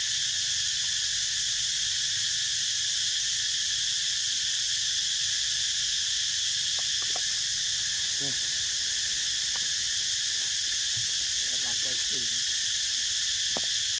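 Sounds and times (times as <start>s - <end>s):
insect chorus drone: 0.0s - 13.9s.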